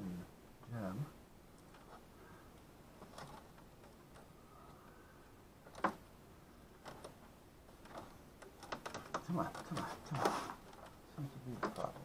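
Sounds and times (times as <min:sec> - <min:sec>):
faint plastic clicks: 0:01.5 - 0:06.0, 0:06.7 - 0:12.0.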